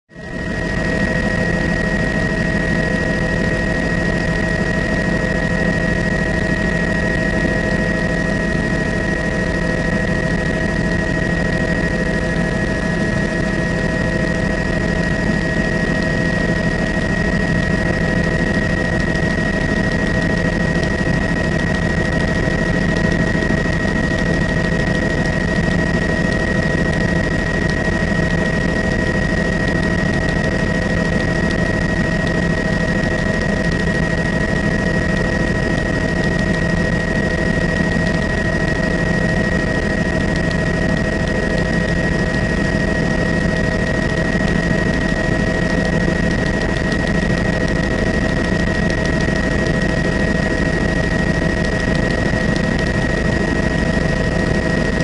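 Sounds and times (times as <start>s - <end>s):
helicopter engine and rotor drone: 0.1s - 55.0s
turbine high whine: 0.1s - 55.0s.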